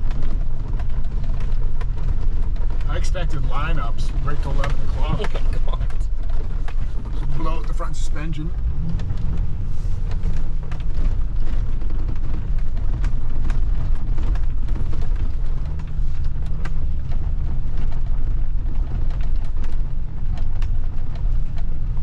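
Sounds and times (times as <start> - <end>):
deep engine and road rumble: 0.0 - 22.0.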